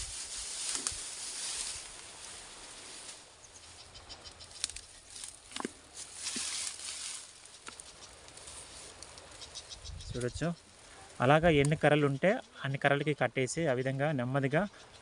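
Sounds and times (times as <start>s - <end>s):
grass and sticks rustling: 0.0s - 13.1s.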